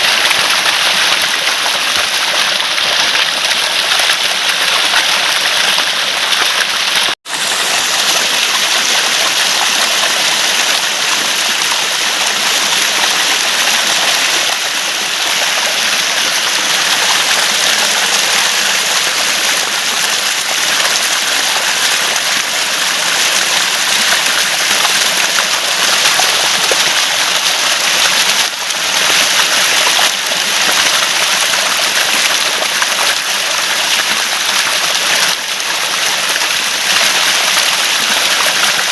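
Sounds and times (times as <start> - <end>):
water gurgling over stones: 0.0 - 38.9.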